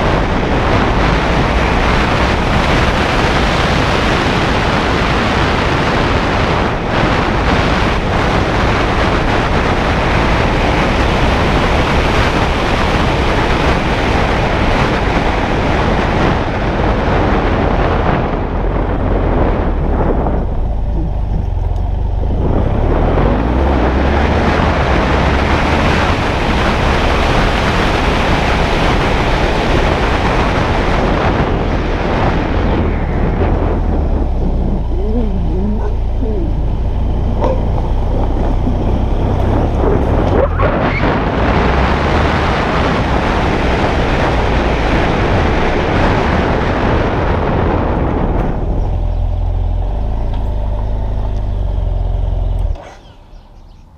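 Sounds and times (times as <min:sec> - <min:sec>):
motorcycle engine rumble: 0:00.0 - 0:53.9
wind buffeting microphone: 0:00.0 - 0:53.9.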